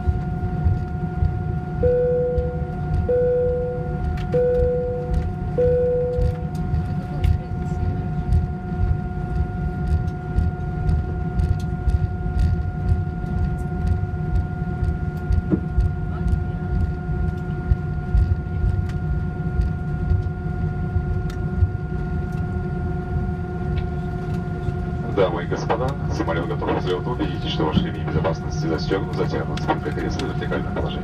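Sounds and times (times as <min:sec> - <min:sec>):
high whine: 0:00.0 - 0:31.0
low engine and wheel rumble: 0:00.0 - 0:31.0.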